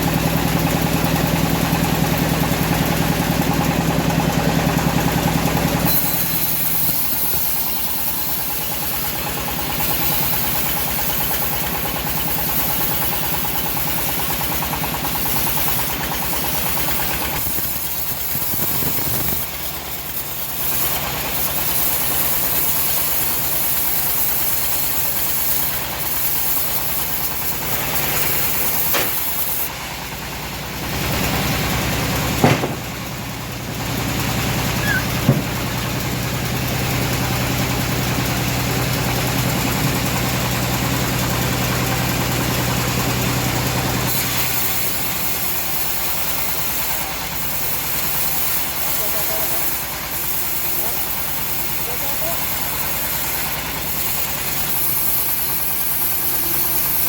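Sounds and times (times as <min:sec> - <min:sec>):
bandsaw running: 0:00.0 - 0:57.0.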